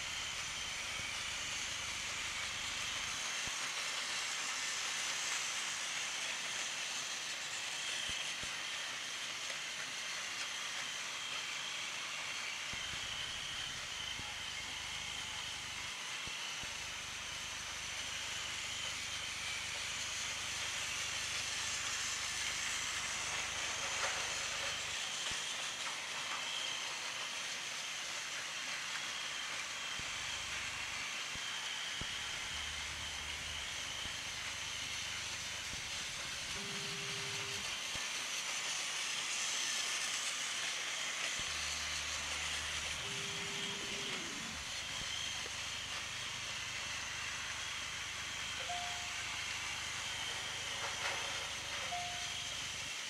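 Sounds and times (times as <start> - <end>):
toy trains whirring on track: 0.0 - 53.0.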